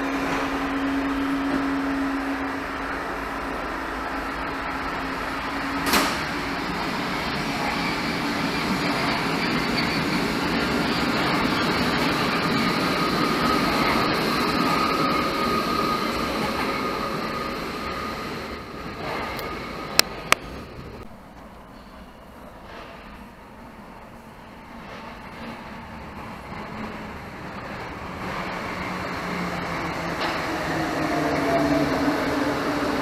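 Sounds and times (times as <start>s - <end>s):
underground train rumbling: 0.0s - 33.0s.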